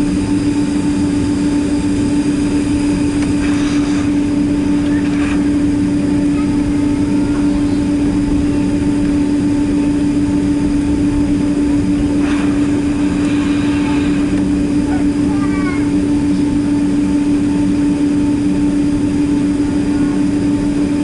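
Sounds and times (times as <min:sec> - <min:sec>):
jet engine drone in cabin: 0:00.0 - 0:21.0.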